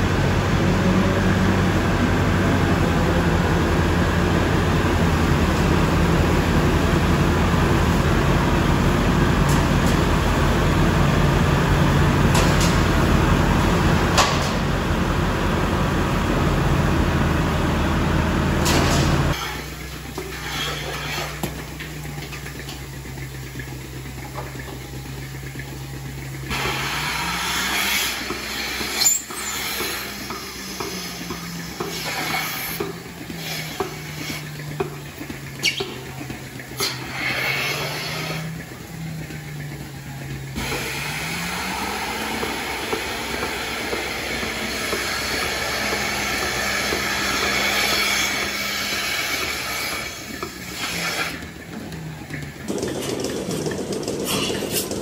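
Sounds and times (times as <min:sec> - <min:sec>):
steady machine hum: 0:00.0 - 0:55.0
straw blower engine and fan: 0:00.0 - 0:55.0.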